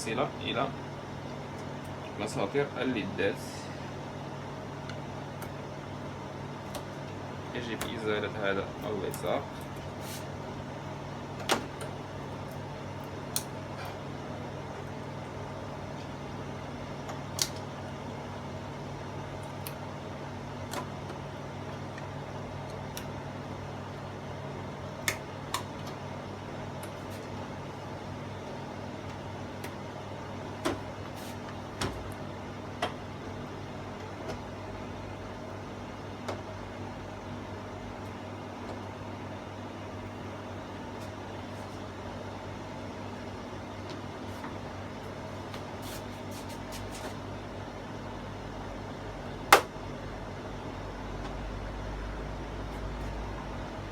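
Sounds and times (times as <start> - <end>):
low background hum: 0.0 - 53.9.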